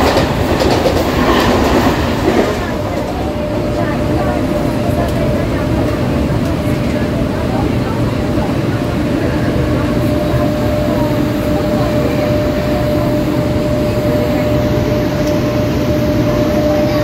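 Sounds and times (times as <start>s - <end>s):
constant whine: 0.0s - 17.0s
train wheels rumbling on track: 0.0s - 17.0s.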